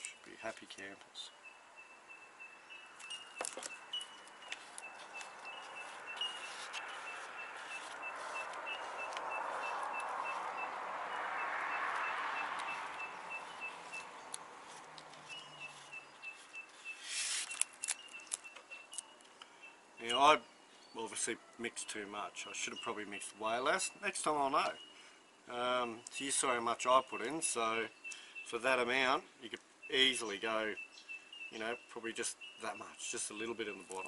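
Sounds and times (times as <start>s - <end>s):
bird chirping: 0.0s - 34.0s.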